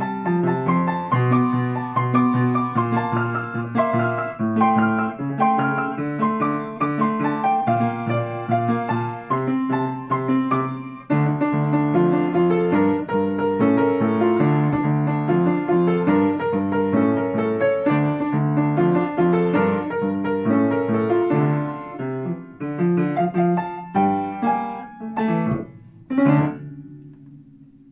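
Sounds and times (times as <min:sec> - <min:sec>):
upright piano playing: 0:00.0 - 0:27.9.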